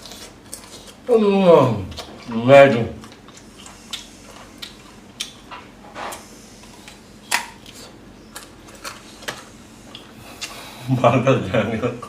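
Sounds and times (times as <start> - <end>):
person chewing with wet smacks: 0.0 - 1.1, 1.8 - 10.7.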